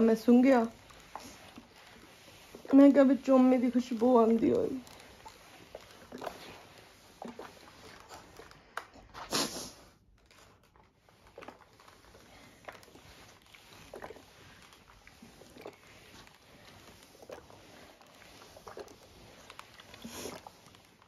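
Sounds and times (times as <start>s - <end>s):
fabric rustling: 0.0s - 21.0s.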